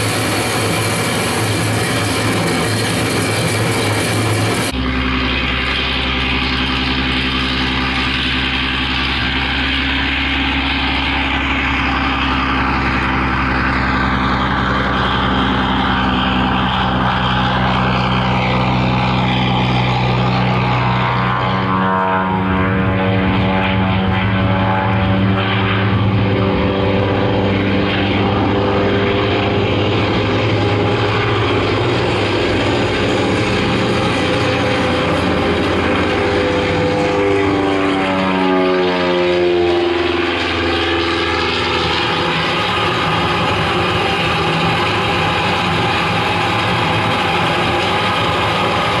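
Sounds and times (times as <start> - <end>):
propeller aircraft engine droning: 0.0 - 49.0.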